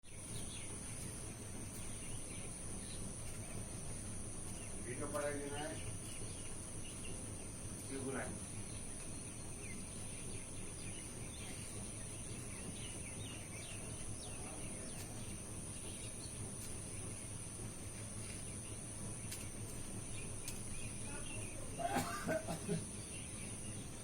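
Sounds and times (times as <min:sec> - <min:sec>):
bird chirps: 0:00.0 - 0:21.9, 0:22.6 - 0:24.0.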